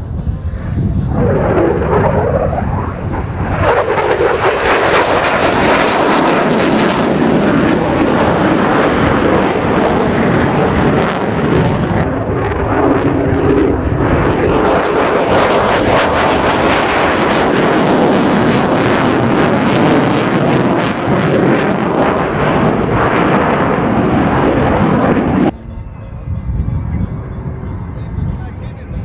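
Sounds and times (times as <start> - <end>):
jet engine crackling roar: 0.0 - 29.0
jet engine whine: 0.0 - 29.0.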